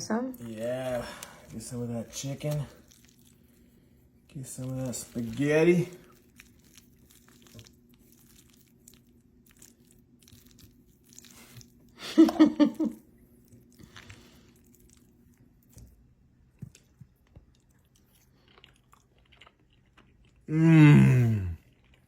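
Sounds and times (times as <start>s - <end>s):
faint steady hum: 0.0s - 22.0s
person chewing food: 0.3s - 22.0s.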